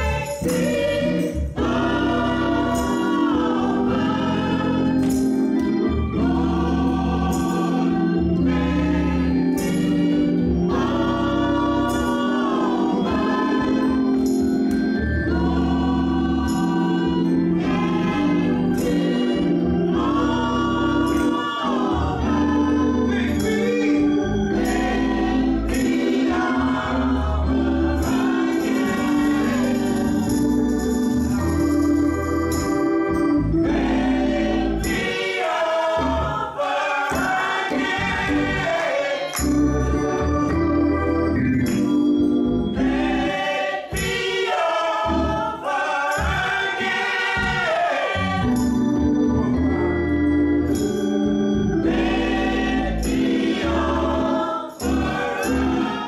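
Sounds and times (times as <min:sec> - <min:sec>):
women's gospel choir singing: 0:00.0 - 0:41.4, 0:42.7 - 0:56.0
sustained organ chords: 0:00.0 - 0:56.0.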